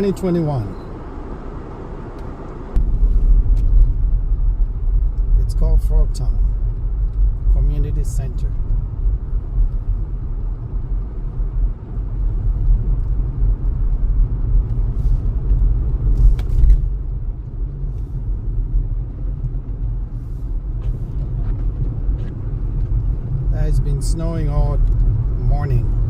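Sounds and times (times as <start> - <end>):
car driving on snow: 0.0 - 26.0.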